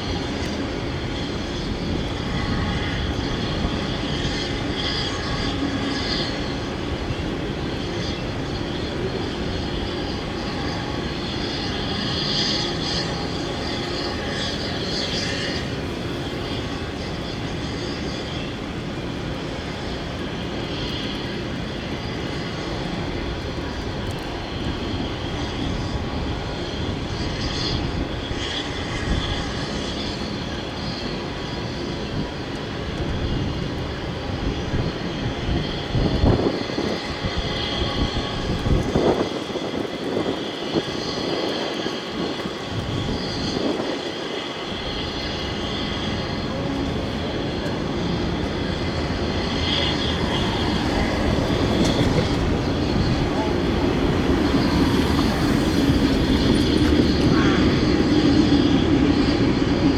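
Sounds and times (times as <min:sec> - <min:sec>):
steel train wheels rumbling on rails: 0:00.0 - 0:59.9.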